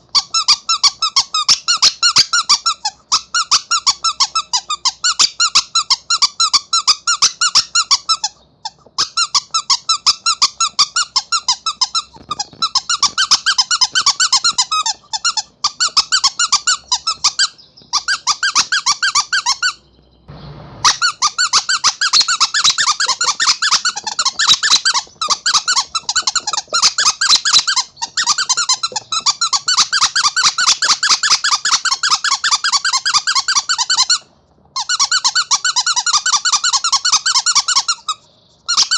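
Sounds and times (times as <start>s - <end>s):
rubber squeaky toy squeaking: 0.0s - 19.8s, 20.8s - 38.9s.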